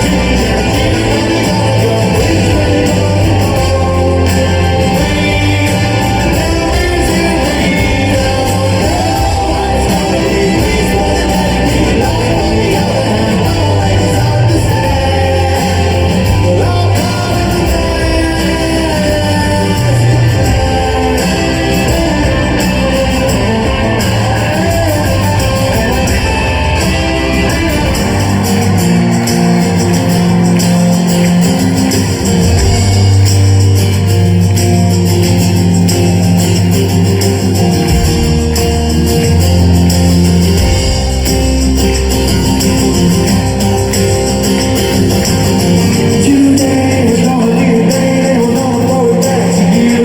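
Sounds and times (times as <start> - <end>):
live rock band with singing: 0.0 - 50.0.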